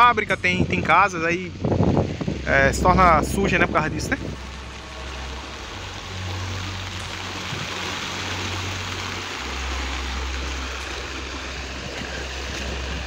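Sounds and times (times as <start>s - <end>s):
flooded river rushing: 0.0s - 13.0s.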